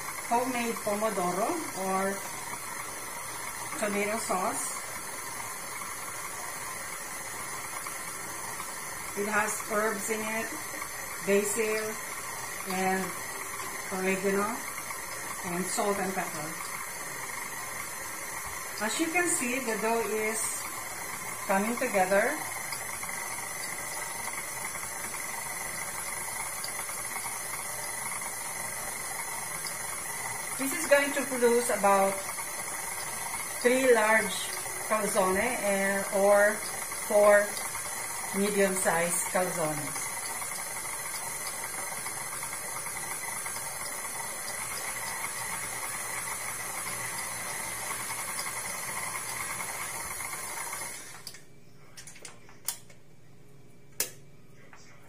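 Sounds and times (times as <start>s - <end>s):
stand mixer motor whirring: 0.0s - 51.4s.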